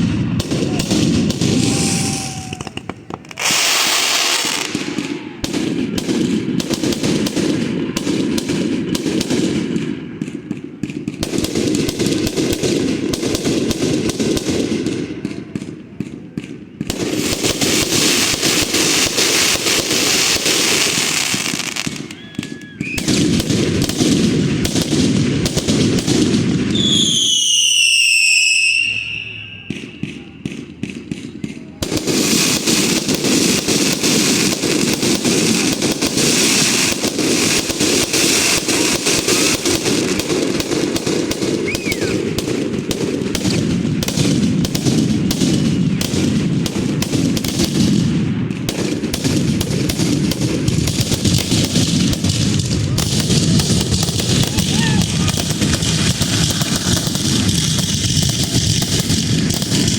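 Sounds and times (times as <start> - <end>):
whistling firework: 0.0 - 7.3, 16.8 - 59.9
fireworks popping and crackling: 0.0 - 59.9.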